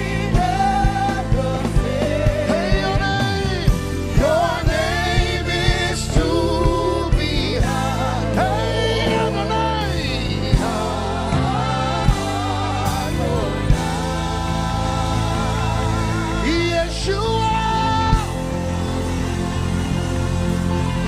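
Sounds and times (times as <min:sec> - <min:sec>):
band with steady drum beat: 0:00.0 - 0:21.0
voices singing gospel: 0:00.0 - 0:21.0.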